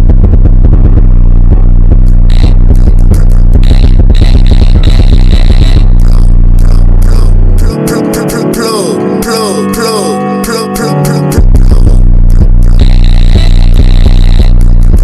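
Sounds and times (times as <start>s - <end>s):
slowed bass-boosted music: 0.0s - 15.0s.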